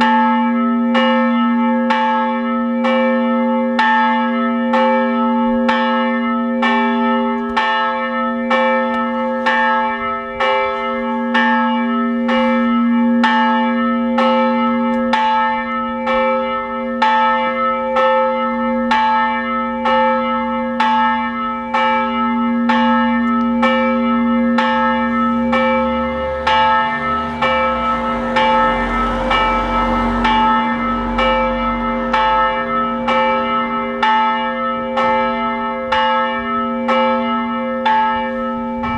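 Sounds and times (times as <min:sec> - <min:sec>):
large church bell ringing: 0:00.0 - 0:38.9.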